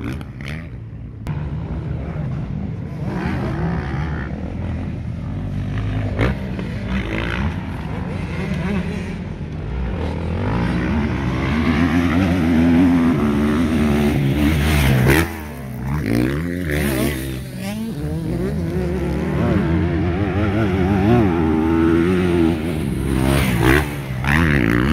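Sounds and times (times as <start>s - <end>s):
motocross bike engines revving: 0.0s - 24.9s.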